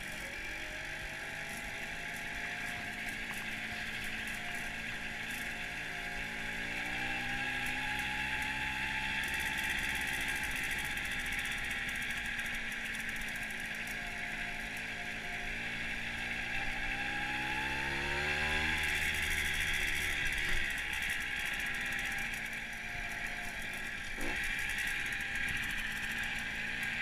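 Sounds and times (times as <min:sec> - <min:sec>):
moped two-stroke engine running: 0:00.0 - 0:27.0.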